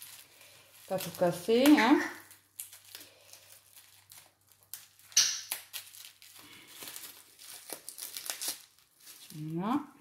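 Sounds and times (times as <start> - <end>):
packaging clicks and rustles: 0.0 - 9.4
packaging crinkling rip: 0.0 - 9.6.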